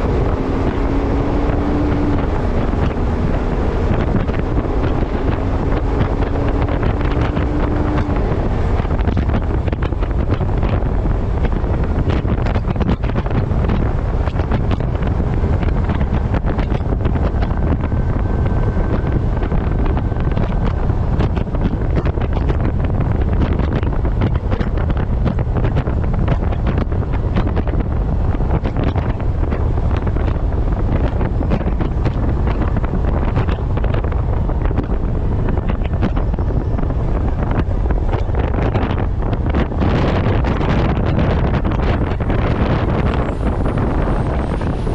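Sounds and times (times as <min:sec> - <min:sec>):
deep rumble: 0:00.0 - 0:44.9
wind buffeting microphone: 0:00.0 - 0:44.9.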